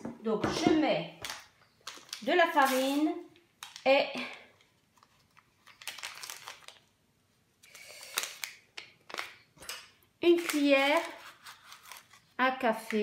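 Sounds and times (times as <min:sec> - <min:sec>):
paper sachet crinkling: 0:01.2 - 0:07.0, 0:07.6 - 0:12.4.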